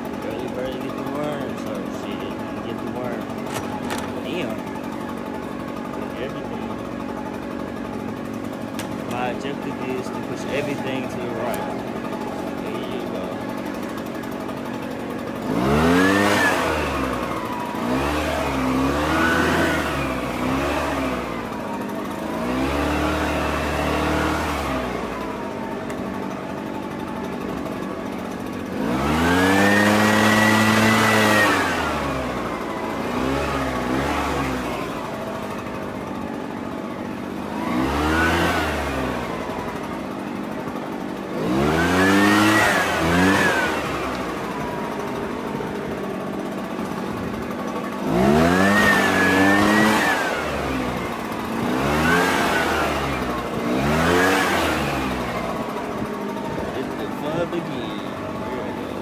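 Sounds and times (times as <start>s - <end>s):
small petrol engine revving: 0.0s - 59.0s.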